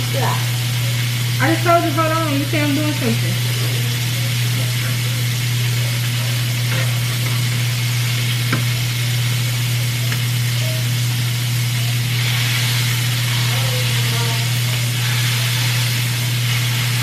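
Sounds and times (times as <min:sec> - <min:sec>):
sausages sizzling in a frying pan: 0:00.0 - 0:17.0.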